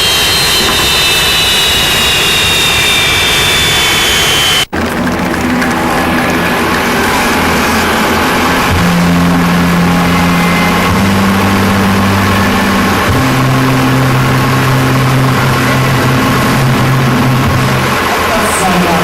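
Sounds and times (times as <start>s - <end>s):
pulling tractor engine running: 0.0s - 19.0s.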